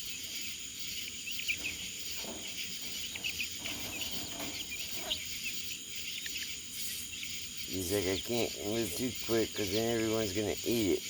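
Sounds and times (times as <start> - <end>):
high insect drone: 0.0 - 11.0
soft low bird calls: 0.0 - 11.0.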